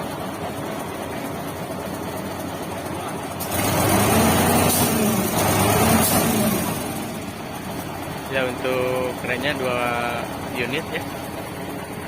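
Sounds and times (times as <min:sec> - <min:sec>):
heavy vehicle engines running: 0:00.0 - 0:12.0.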